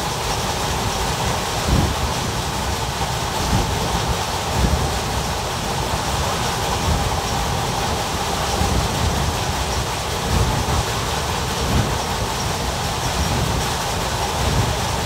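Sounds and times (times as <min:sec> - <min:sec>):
rushing air hiss: 0:00.0 - 0:15.0
train coach bumps: 0:00.0 - 0:15.0
train wheels rumbling on rail: 0:00.0 - 0:15.0.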